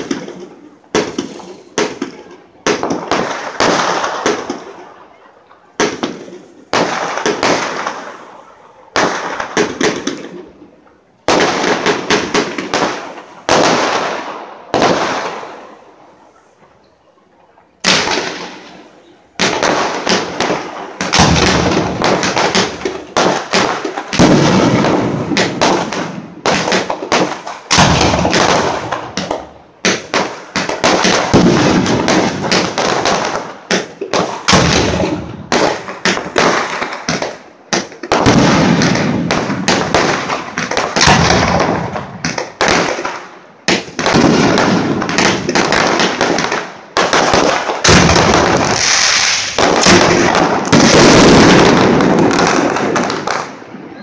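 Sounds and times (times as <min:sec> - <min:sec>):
fireworks bursting with loud bangs: 0:00.0 - 0:16.8, 0:17.8 - 0:54.0.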